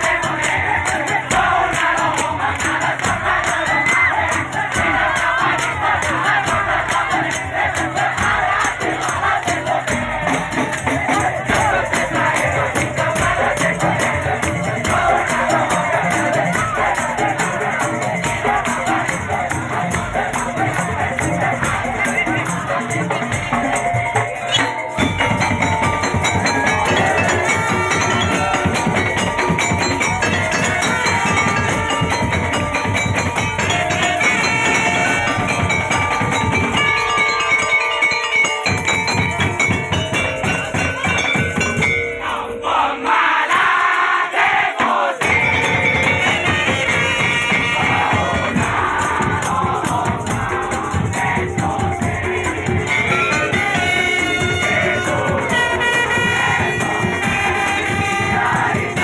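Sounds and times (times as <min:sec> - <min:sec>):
crowd noise: 0:00.0 - 0:59.0
loud music with jingling percussion: 0:00.0 - 0:59.0
people singing: 0:00.0 - 0:59.0.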